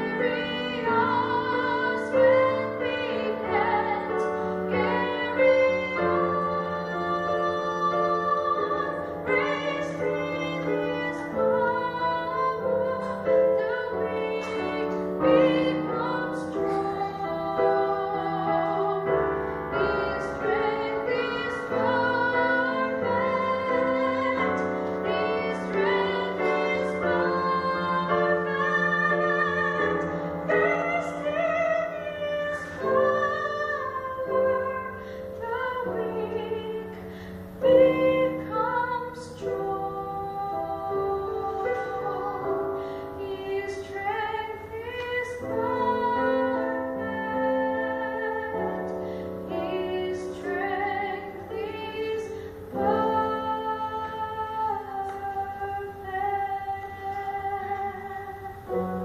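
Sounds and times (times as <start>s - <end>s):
piano accompaniment: 0.0s - 59.0s
woman singing into microphone: 0.0s - 59.0s.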